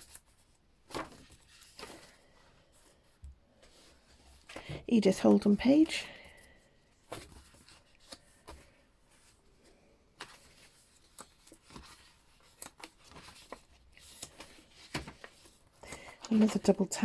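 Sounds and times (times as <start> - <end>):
paper pages rustling: 0.0 - 4.7, 7.0 - 9.4, 10.2 - 17.0.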